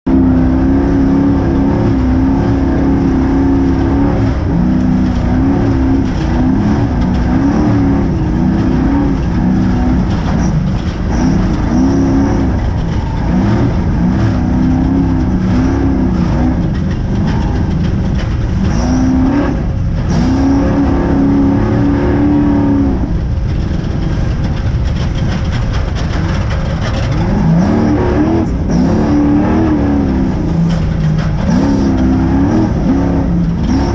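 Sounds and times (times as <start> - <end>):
low rumble: 0.0 - 33.9
truck engine revving: 0.0 - 33.9.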